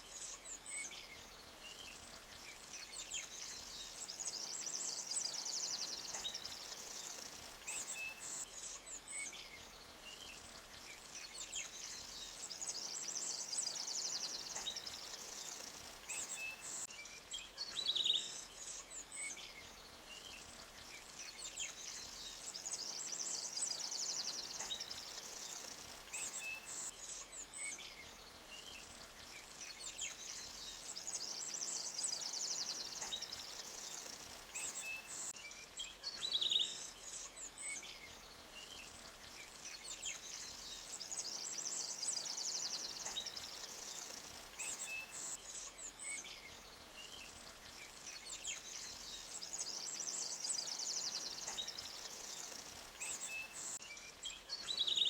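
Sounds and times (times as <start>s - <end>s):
faint steady hiss: 0.0s - 55.0s
forest birds chirping: 0.0s - 55.0s.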